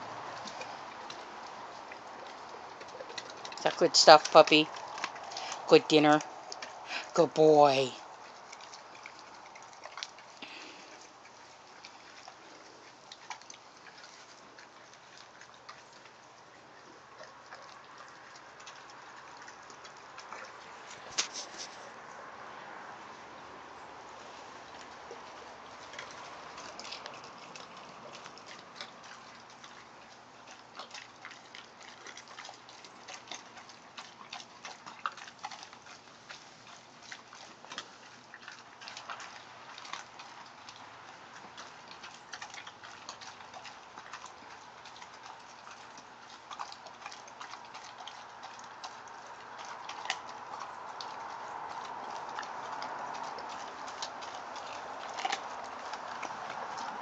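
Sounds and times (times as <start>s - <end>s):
dog crunching bones: 0.0s - 22.8s, 24.0s - 57.0s.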